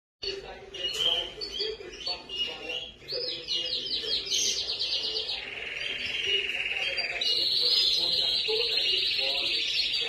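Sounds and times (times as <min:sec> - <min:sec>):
canary singing trills: 0:00.2 - 0:10.0.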